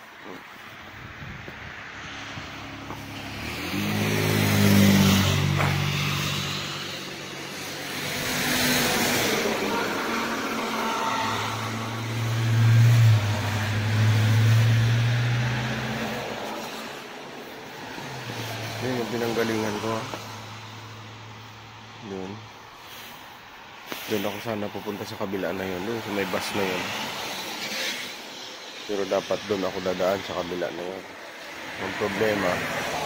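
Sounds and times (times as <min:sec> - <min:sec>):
bus engine drone: 0:00.0 - 0:33.0
road traffic passing: 0:00.0 - 0:33.0.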